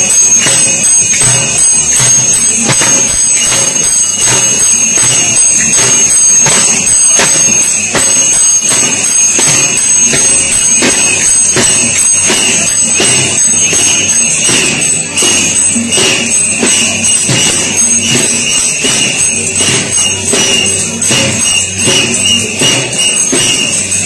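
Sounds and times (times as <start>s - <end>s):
barrel drums beaten: 0.0s - 24.0s
high ringing tone: 0.0s - 24.0s.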